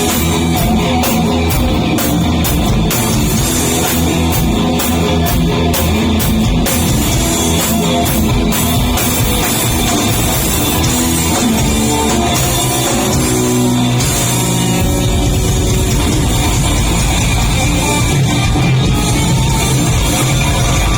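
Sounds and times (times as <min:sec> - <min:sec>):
drum kit: 0:00.0 - 0:20.9
electric guitar: 0:00.0 - 0:20.9
live rock music: 0:00.0 - 0:20.9.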